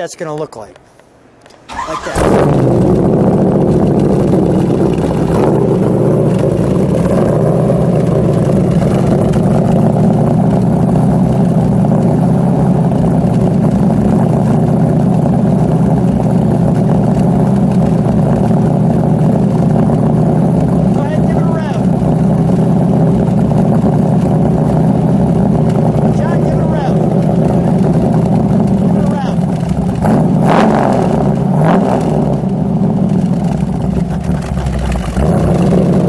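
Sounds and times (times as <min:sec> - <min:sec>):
car engine idling: 0:01.7 - 0:36.0.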